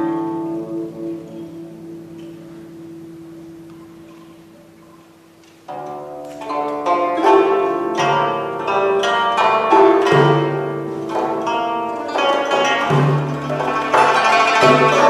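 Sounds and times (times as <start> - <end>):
guzheng plucked: 0.0 - 15.0.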